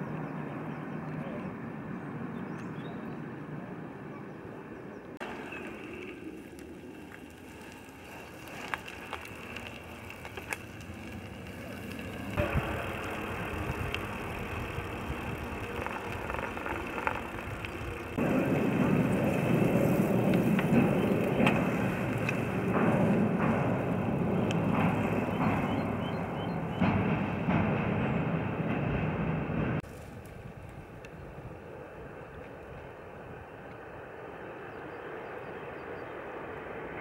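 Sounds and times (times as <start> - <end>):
bicycles rolling on paved path: 4.4 - 37.0.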